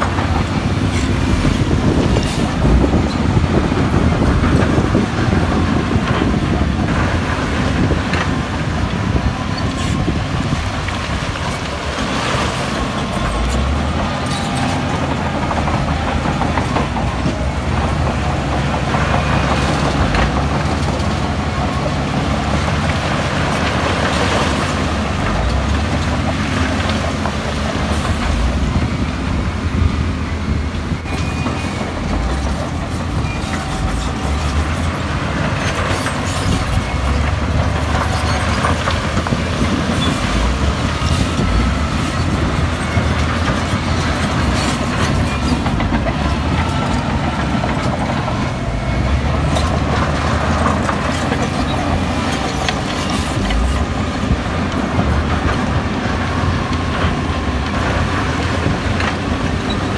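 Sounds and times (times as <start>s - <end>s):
bulldozer diesel engine under load: 0.0s - 59.9s
dump truck running: 0.0s - 59.9s
wheel loader running: 0.0s - 59.9s.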